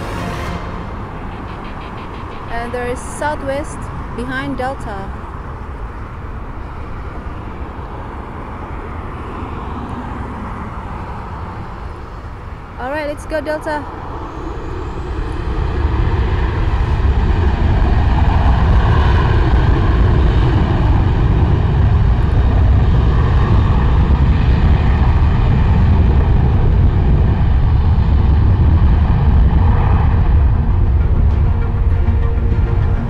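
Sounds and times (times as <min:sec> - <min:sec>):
jet engines rumbling at takeoff: 0:00.0 - 0:33.0.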